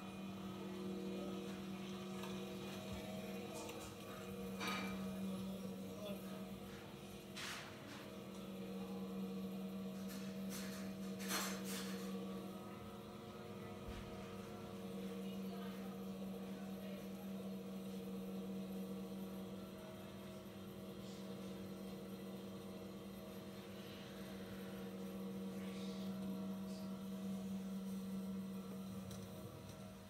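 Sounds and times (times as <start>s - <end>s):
chairlift motor humming: 0.0s - 30.0s.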